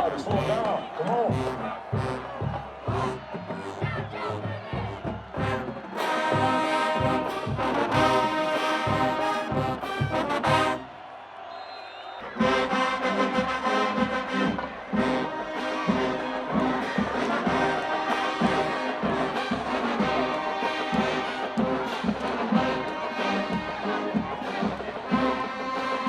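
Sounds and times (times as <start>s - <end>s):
marching band playing: 0.0s - 11.0s, 12.2s - 26.0s.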